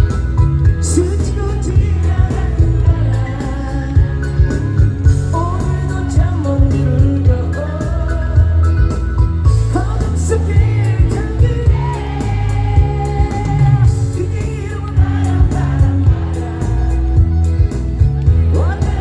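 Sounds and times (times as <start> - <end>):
live pop band: 0.0 - 19.0
person singing: 0.8 - 19.0.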